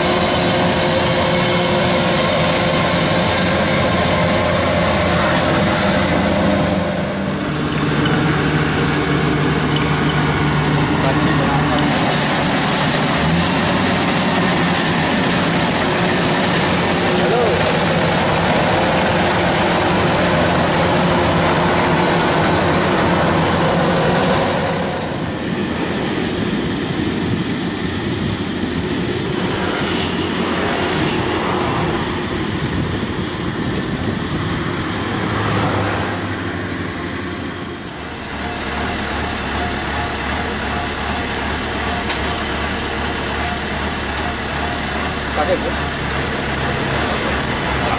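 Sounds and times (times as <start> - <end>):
combine harvester engine drone: 0.0 - 47.9.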